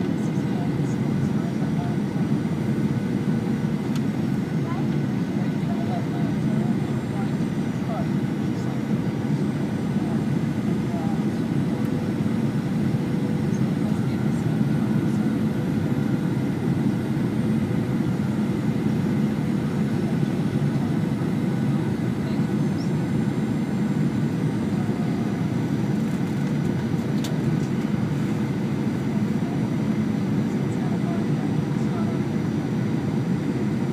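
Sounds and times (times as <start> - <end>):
airplane engines and airflow rush: 0.0 - 33.9.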